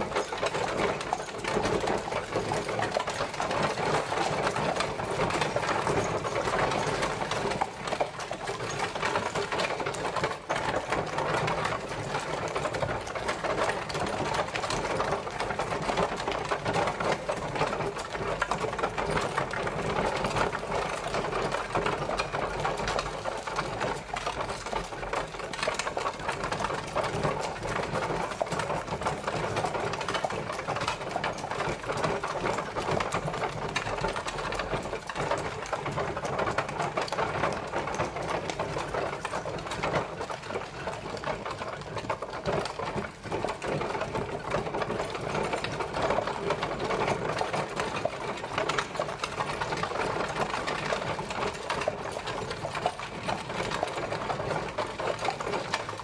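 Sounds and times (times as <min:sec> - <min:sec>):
horse-drawn carriage clattering: 0:00.0 - 0:56.0.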